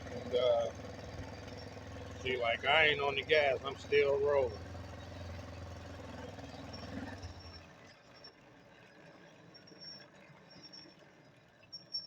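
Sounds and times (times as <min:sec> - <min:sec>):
small engine idling: 0:00.0 - 0:10.1.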